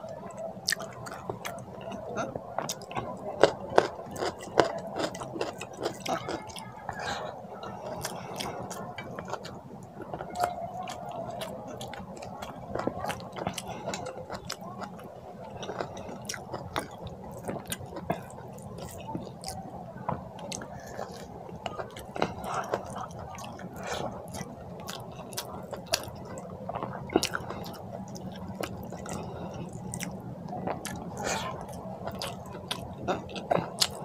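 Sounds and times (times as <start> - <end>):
wet chewing: 0.6 - 34.0.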